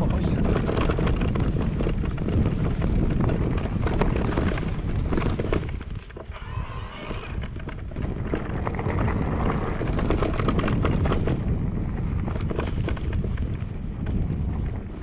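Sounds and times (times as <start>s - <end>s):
bike rattling: 0.0s - 15.0s
tyres rolling over stones: 0.0s - 15.0s
wind buffeting microphone: 0.0s - 15.0s.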